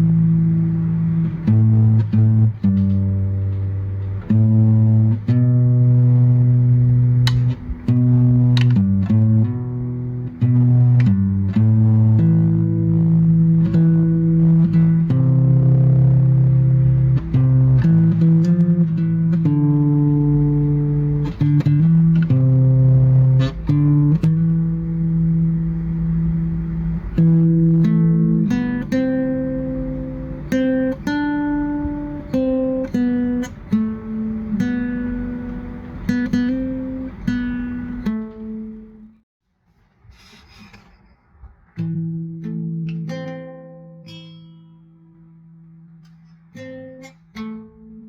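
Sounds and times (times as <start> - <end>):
bass line: 0.0 - 39.1
low plucked guitar notes: 0.0 - 39.2, 41.8 - 48.0.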